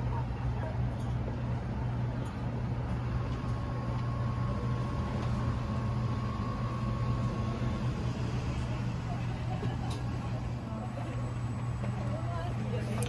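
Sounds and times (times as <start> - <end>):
ice cream machine humming: 0.0 - 13.0.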